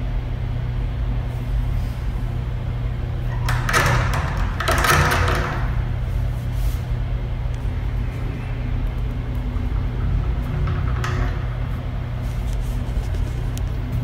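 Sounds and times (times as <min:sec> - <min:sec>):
low rumble with droning hum: 0:00.0 - 0:14.0.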